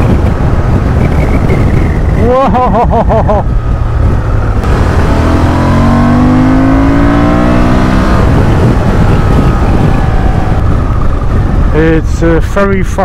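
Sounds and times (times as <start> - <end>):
motorcycle engine accelerating: 0.0 - 11.9
wind rushing on microphone: 0.0 - 13.0.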